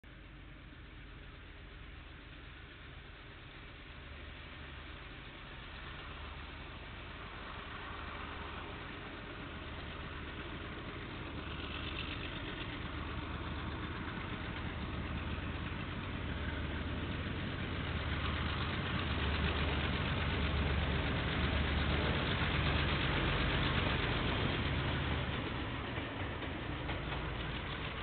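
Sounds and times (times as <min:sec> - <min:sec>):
diesel locomotive engine hum: 0:00.0 - 0:28.0.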